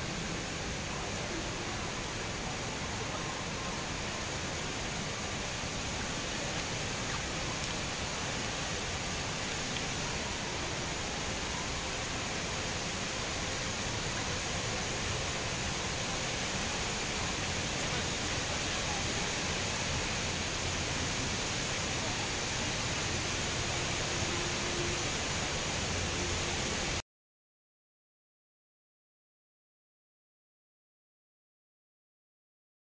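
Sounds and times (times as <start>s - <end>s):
indoor waterfall rushing hiss: 0.0s - 27.0s.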